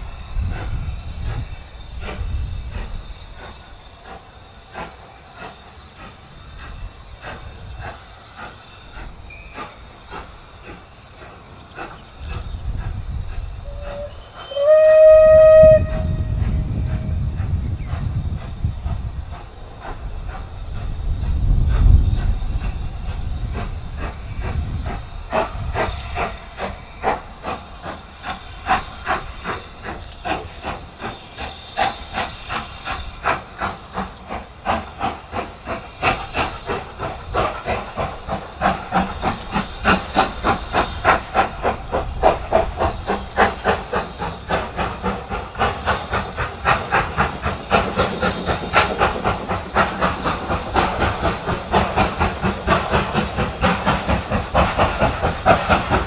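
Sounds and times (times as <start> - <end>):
steam locomotive exhaust beats: 0.0 - 56.0.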